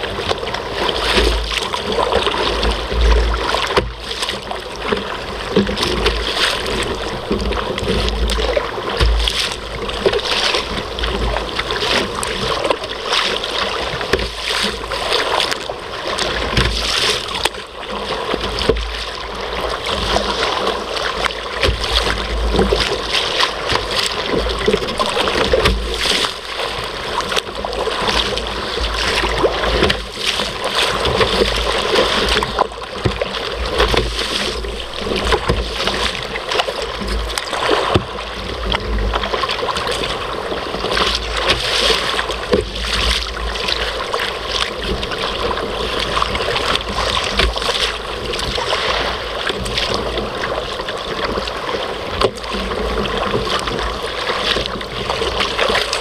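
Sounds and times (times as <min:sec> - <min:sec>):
waves splashing against kayak hull: 0:00.0 - 0:56.0.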